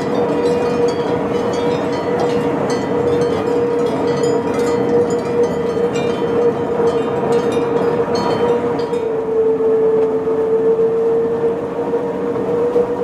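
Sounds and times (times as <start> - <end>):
electric railcar whine and rumble: 0.0 - 13.0.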